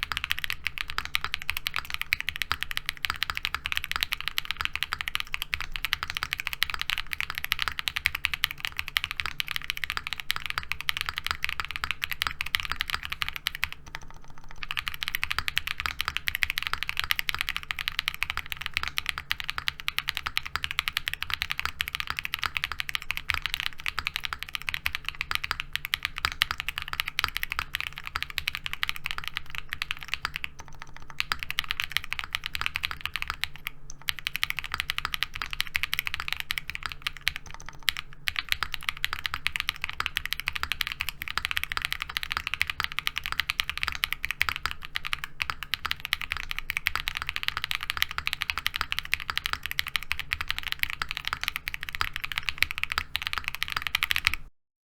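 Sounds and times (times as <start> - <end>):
fast keyboard typing: 0.0 - 54.5.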